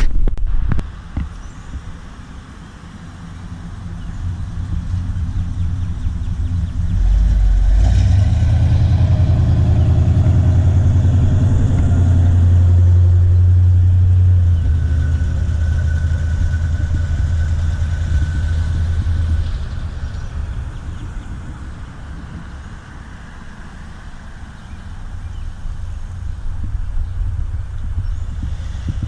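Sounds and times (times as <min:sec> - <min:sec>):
car engine rumbling past: 0:01.0 - 0:29.0.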